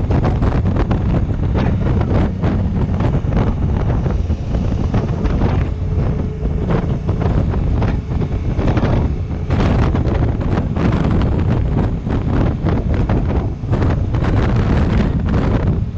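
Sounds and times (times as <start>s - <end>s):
motorcycle engine: 0.0s - 15.9s
road noise: 0.0s - 15.9s
wind buffeting microphone: 0.0s - 15.9s.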